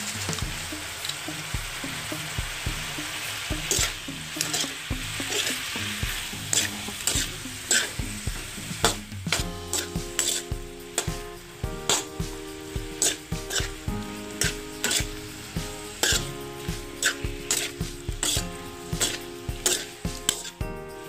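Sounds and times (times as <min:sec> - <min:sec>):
metal spatula scraping wok: 0:00.0 - 0:20.6
food sizzling in a wok: 0:00.0 - 0:21.0.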